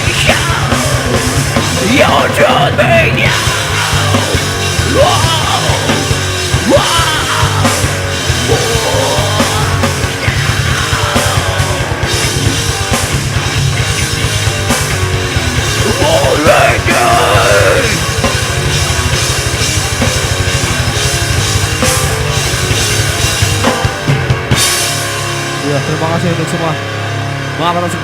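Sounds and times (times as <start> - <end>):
fast dense drumming: 0.0 - 26.8
heavy rock band playing: 0.0 - 28.0.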